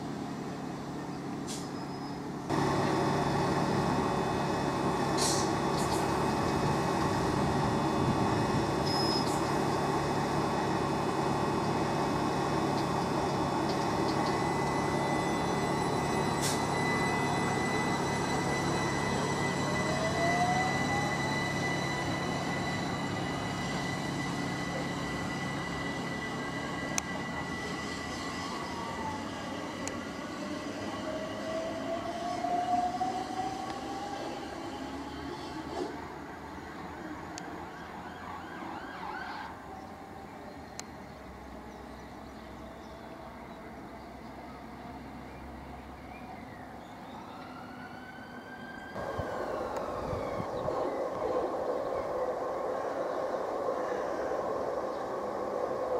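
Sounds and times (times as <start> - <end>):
electric train pulling out: 0.0 - 40.3, 41.0 - 55.9
approaching electric train: 0.0 - 55.9
train drive whine: 0.0 - 55.9.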